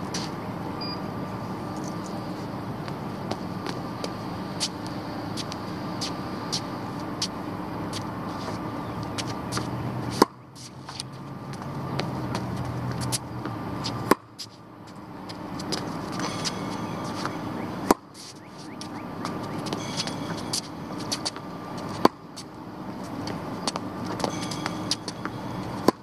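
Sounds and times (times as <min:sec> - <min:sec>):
road traffic hum: 0:00.0 - 0:26.0
tennis racket hitting ball: 0:02.4 - 0:26.0.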